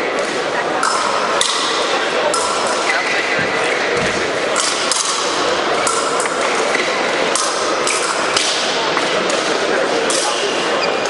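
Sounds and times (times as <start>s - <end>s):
fencing hall din with voices: 0.0s - 11.0s.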